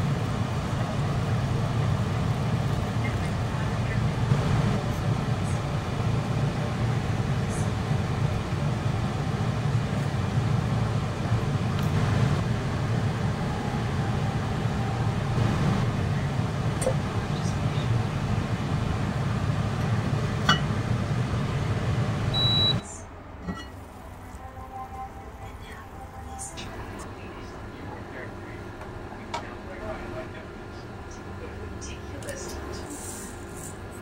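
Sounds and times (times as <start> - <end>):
induction cooker humming: 0.0 - 34.0.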